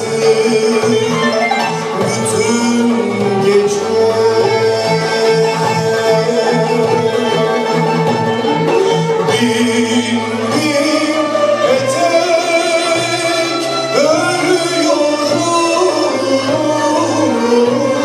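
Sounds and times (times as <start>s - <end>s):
man singing: 0.0s - 18.0s
violins: 0.0s - 18.0s.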